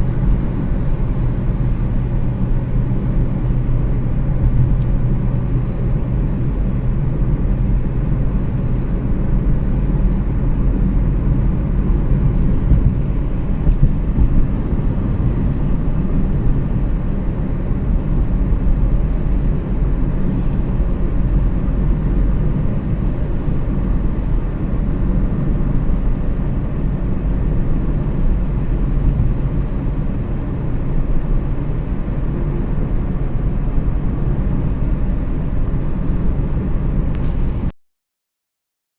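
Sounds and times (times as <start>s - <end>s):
road noise: 0.0s - 37.7s
vehicle engine rumble: 0.0s - 37.8s.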